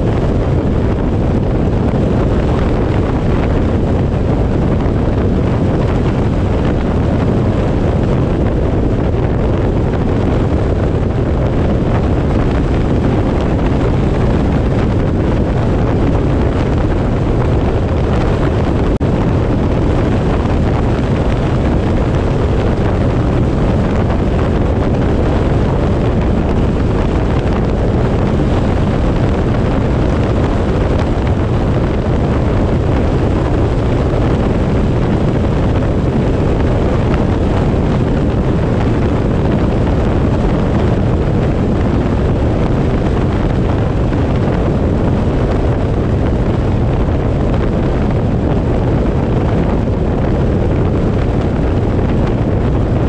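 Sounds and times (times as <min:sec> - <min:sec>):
road noise from vehicle: 0:00.0 - 0:52.9
wind rushing over microphone: 0:00.0 - 0:53.0.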